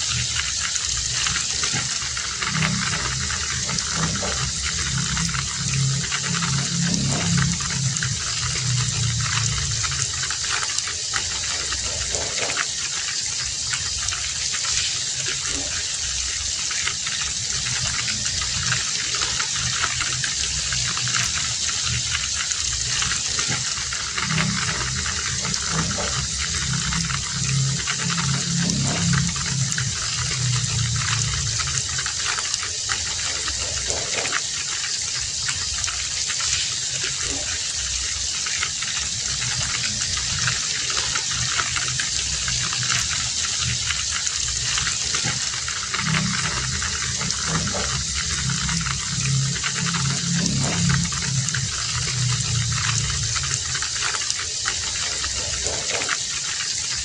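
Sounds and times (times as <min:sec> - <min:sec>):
low rumble: 0:00.0 - 0:12.4, 0:17.2 - 0:34.1, 0:39.2 - 0:55.8
heavy rain hissing: 0:00.0 - 0:57.0.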